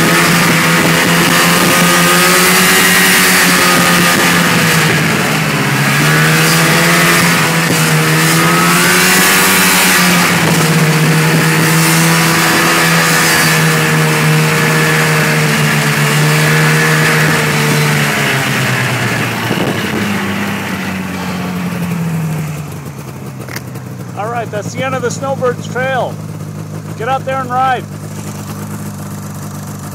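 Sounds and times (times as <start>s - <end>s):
snowmobile engine running: 0.0s - 29.9s.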